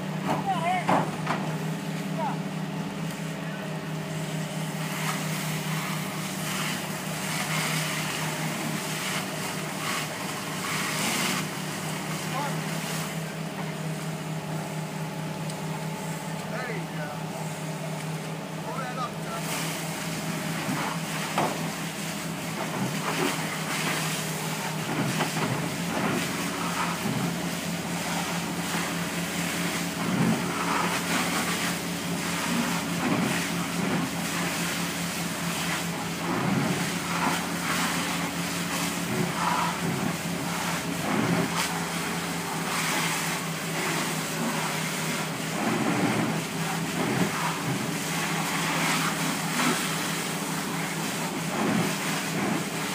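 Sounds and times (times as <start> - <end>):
diesel engine and pump drone: 0.0 - 52.9
fire hose spraying water: 0.4 - 52.9.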